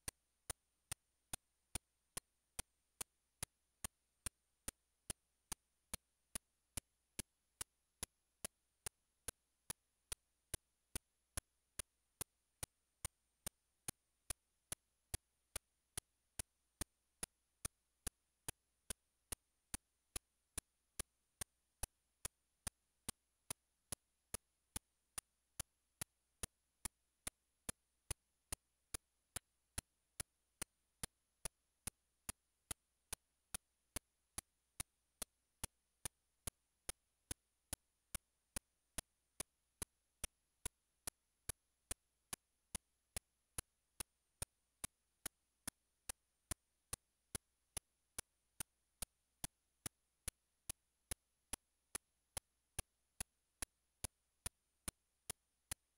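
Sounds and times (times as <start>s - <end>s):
sharp ticking clicks: 0.0s - 55.8s.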